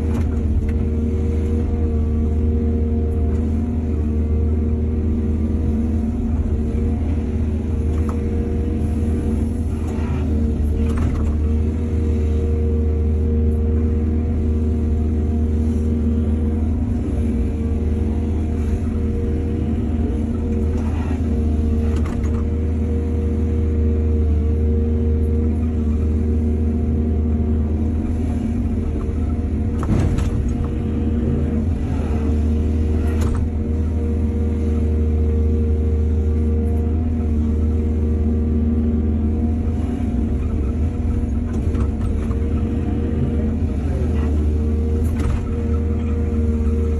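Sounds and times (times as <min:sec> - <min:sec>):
engine whine: 0:00.0 - 0:46.9
excavator engine droning: 0:00.0 - 0:46.9.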